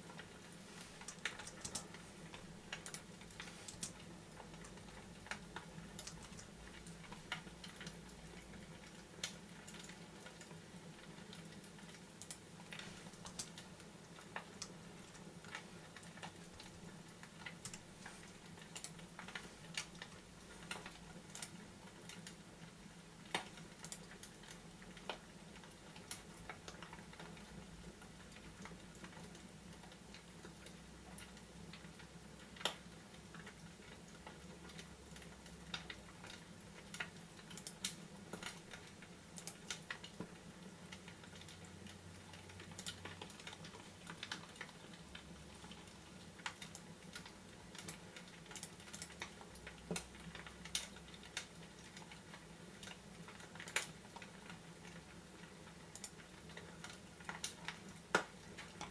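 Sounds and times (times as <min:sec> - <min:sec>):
fireplace crackling: 0:00.0 - 0:26.8, 0:31.4 - 0:58.9.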